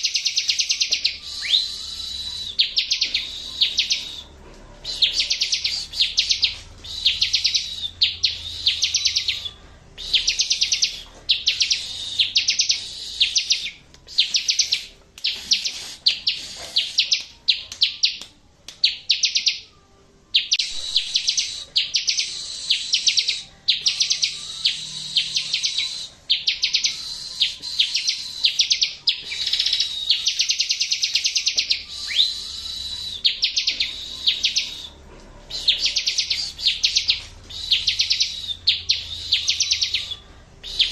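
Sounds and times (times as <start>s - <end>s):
bird trilling high chirps: 0.0s - 19.7s, 20.3s - 40.9s.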